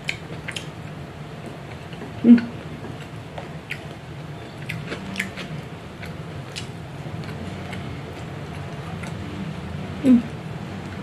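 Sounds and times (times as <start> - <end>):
low steady hum: 0.0 - 11.0
soft chewing: 0.0 - 11.0.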